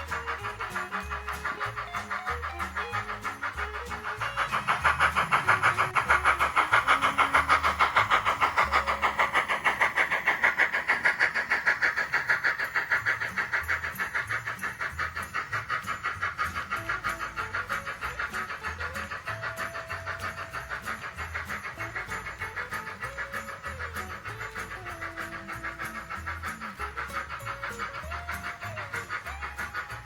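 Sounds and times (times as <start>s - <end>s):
background music: 0.0s - 30.0s
model train clattering: 0.0s - 30.0s.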